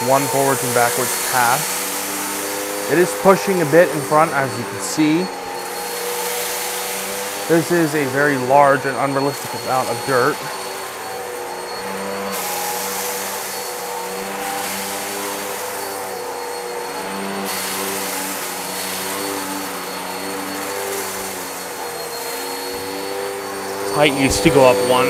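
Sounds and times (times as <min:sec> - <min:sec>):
rushing hiss: 0:00.0 - 0:25.0
vacuum cleaner motor whining: 0:00.0 - 0:25.0.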